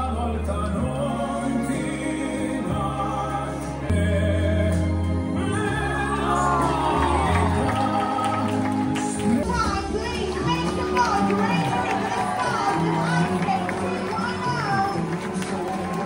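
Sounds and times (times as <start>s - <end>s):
choir-like singing: 0.0s - 16.0s.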